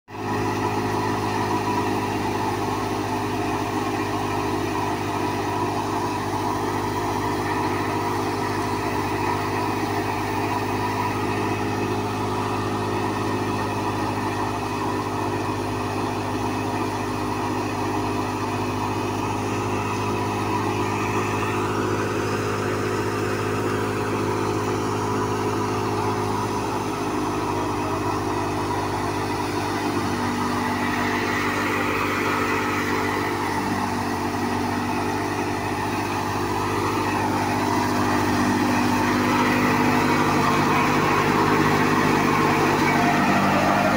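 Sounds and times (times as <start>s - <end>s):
grain thresher whirring: 0.1s - 43.9s
tractor diesel engine droning: 0.1s - 43.9s.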